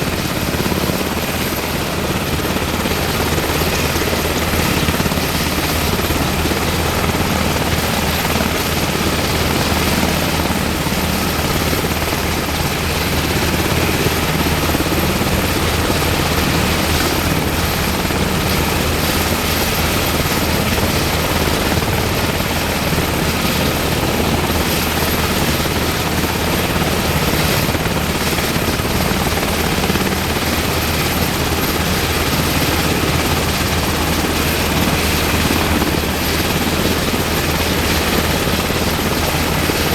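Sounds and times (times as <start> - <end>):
helicopter engine and rotor roar: 0.0 - 39.9.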